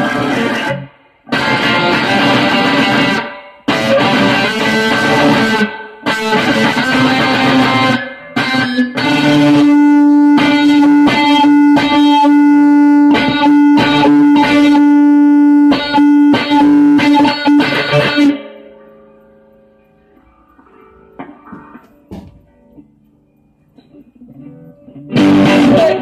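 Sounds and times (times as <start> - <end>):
electric guitar chords: 0.0 - 26.0
held guitar note ringing: 0.0 - 26.0.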